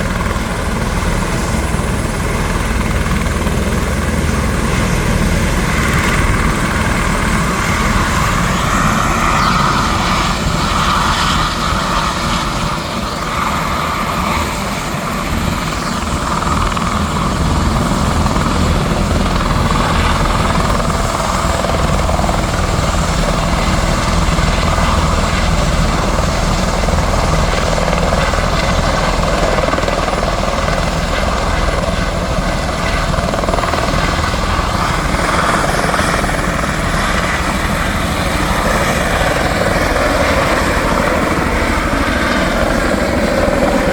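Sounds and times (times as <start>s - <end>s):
helicopter rotor beat: 0.0s - 43.9s
turbine whine: 0.0s - 43.9s.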